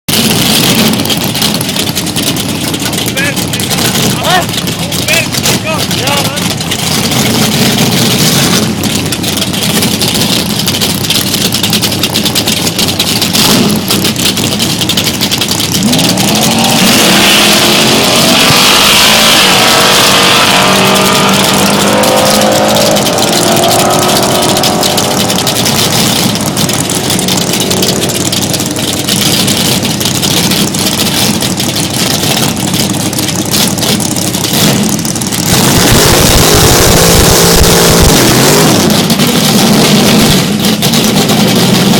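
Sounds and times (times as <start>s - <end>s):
car engine revving and accelerating: 0.1s - 11.3s, 12.1s - 41.9s
deep engine rumble: 0.1s - 41.9s.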